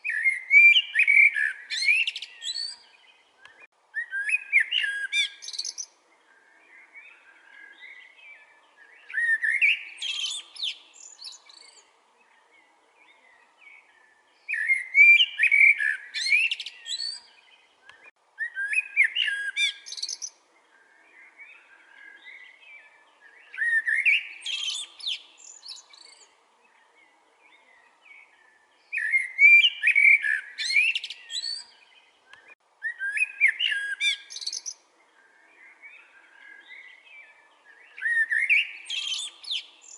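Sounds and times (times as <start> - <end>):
blackbird singing: 0.0 - 39.9
faint bird chirping: 0.0 - 39.9.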